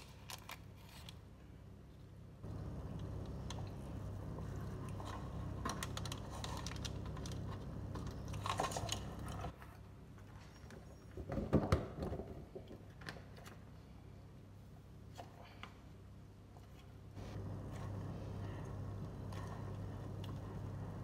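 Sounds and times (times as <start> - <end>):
low steady hum: 0.0 - 10.1, 13.4 - 21.0.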